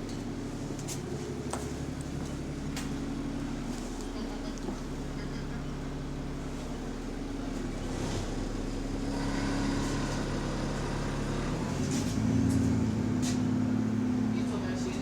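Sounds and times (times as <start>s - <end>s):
bus diesel engine: 0.0s - 15.0s.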